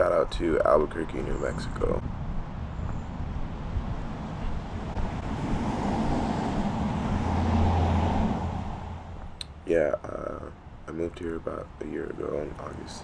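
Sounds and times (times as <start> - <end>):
road traffic: 0.0 - 13.0
vehicle low rumble: 0.0 - 13.0.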